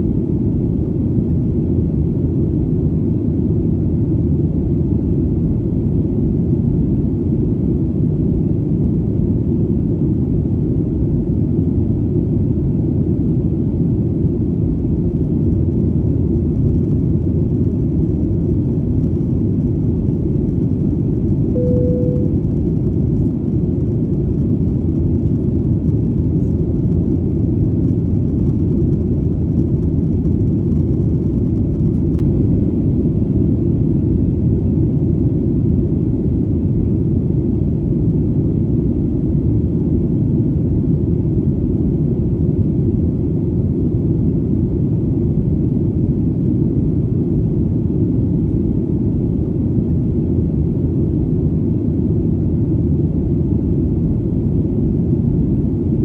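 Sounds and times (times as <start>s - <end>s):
airplane engine rumble: 0.0s - 56.0s.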